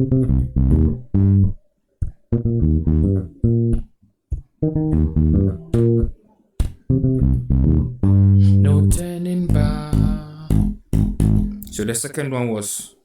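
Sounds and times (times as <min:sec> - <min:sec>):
bass guitar groove: 0:00.0 - 0:12.0.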